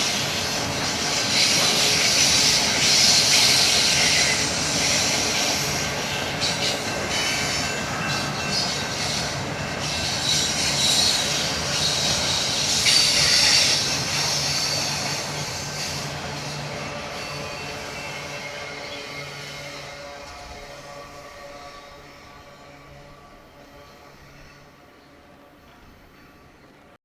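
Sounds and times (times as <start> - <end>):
high wheel squeal: 0.0 - 24.8
freight train wheels rushing on rails: 0.0 - 27.0.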